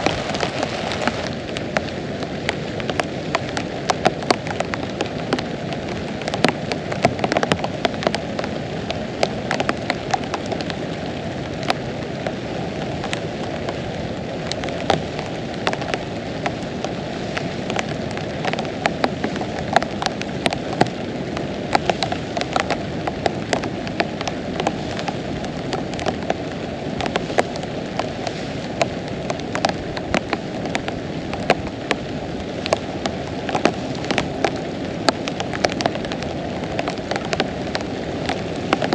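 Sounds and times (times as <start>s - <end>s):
heavy rain hiss: 0.0s - 38.9s
raindrops tapping close by: 0.0s - 38.9s.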